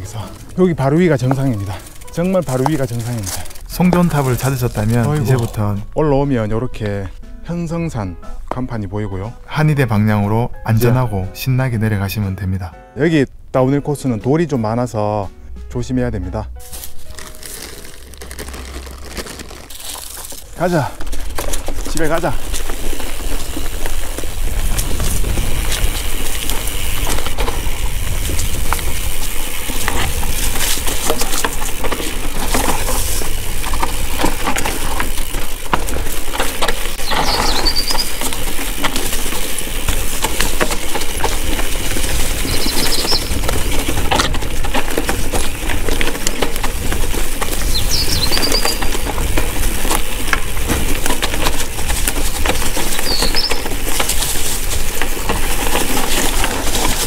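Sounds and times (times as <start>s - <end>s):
bike clattering over rocks: 0.0s - 5.8s, 16.7s - 57.0s.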